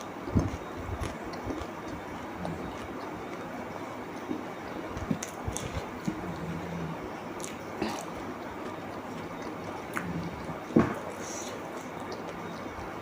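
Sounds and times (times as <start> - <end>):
chewing and biting: 0.1 - 13.0.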